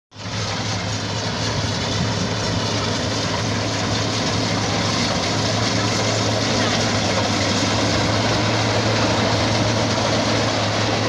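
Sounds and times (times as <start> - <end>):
combine harvester engine hum: 0.1 - 11.0
rushing noise of cutting: 0.2 - 11.0.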